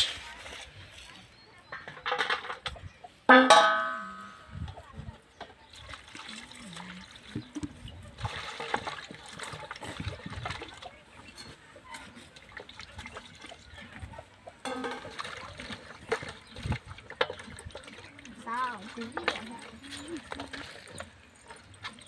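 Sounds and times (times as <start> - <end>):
water splashing and trickling: 0.0 - 22.0.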